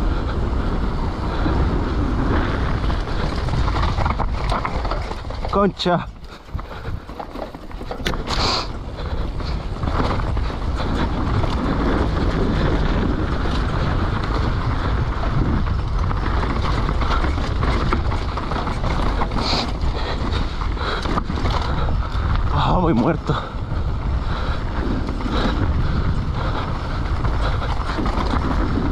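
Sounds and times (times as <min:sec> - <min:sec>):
bike rattling and knocking: 0:00.0 - 0:28.9
tyres rushing on dirt: 0:00.0 - 0:28.9
wind buffeting microphone: 0:00.0 - 0:28.9.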